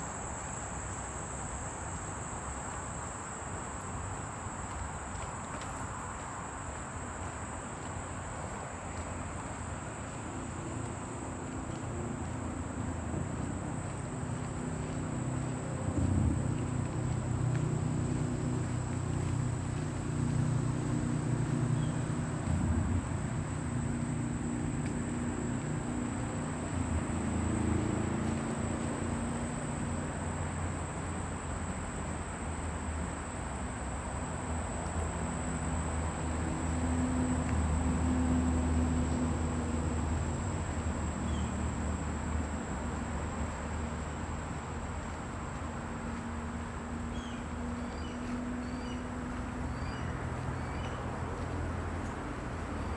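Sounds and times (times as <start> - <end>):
distant road traffic rumble: 0.0 - 52.9
insects buzzing: 0.0 - 52.9.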